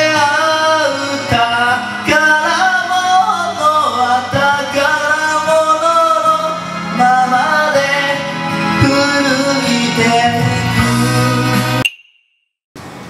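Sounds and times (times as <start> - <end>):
karaoke backing track: 0.0 - 11.8
man singing into a microphone: 0.0 - 11.8.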